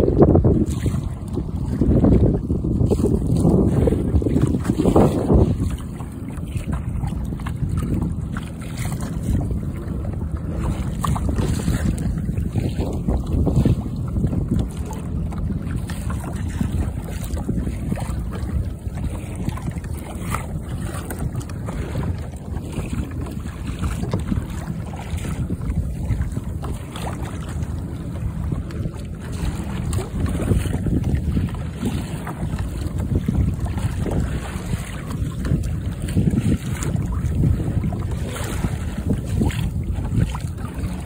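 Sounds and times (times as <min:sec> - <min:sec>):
water splashing along kayak hull: 0:00.0 - 0:41.0
wind buffeting microphone: 0:00.0 - 0:41.0.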